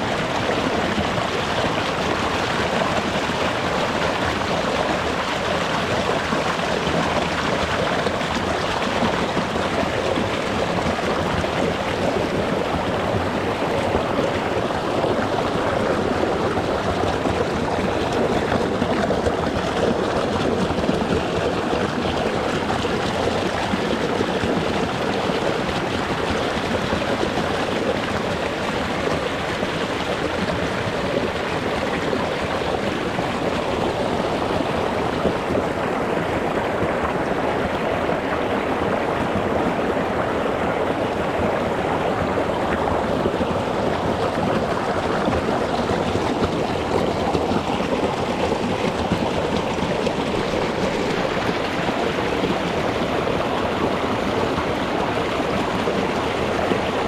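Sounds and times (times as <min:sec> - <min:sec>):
stream splashing over stones: 0:00.0 - 0:57.0.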